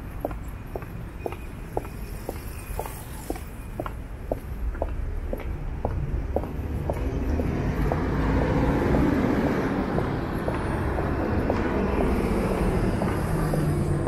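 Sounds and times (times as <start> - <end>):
faint footsteps: 0.0 - 14.0
road traffic rumble: 0.0 - 14.0.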